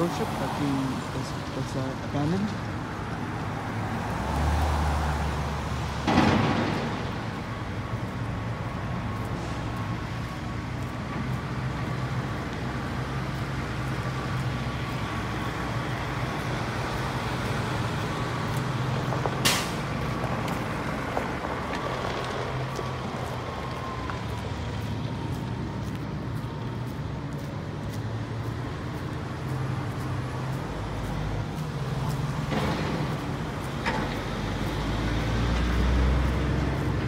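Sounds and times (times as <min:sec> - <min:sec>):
heavy vehicle rumbling past: 0:00.0 - 0:37.0
street traffic: 0:00.0 - 0:37.0.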